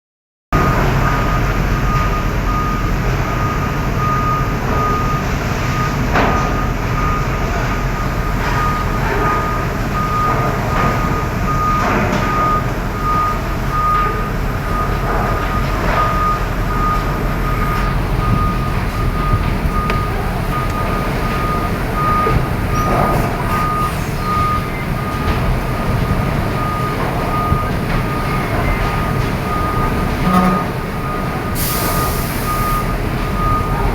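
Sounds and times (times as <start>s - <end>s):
diesel engine running: 0.6s - 33.9s
reversing alarm beeping: 0.6s - 33.9s.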